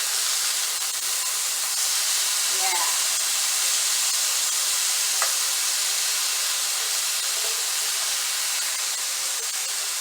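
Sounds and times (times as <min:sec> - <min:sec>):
chicken sizzling in a hot pan: 0:00.0 - 0:10.0.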